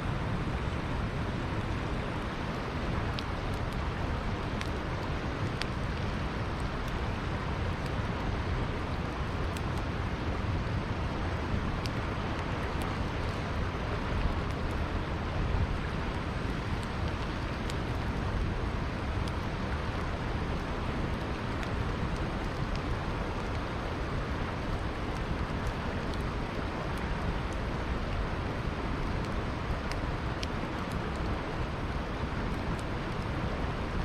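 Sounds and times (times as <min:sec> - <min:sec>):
flowing river: 0:00.0 - 0:34.0
campfire crackling and popping: 0:00.3 - 0:34.0.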